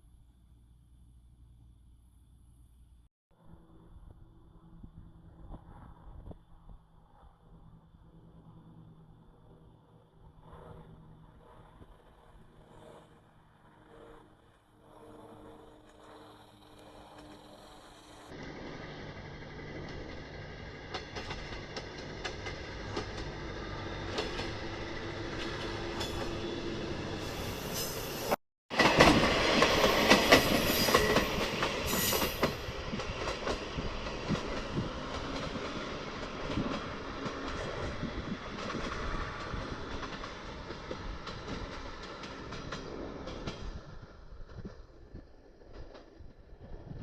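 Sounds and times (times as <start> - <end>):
diesel railcar running: 7.6 - 47.0.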